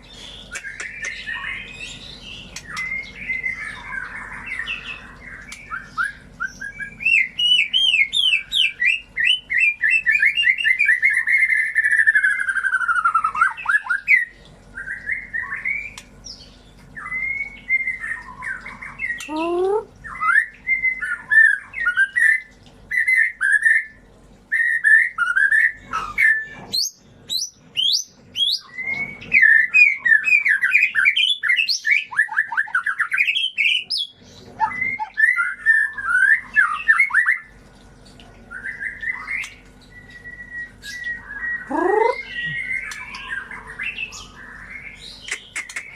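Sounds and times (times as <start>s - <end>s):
bird whistled song and trills: 0.0s - 45.9s.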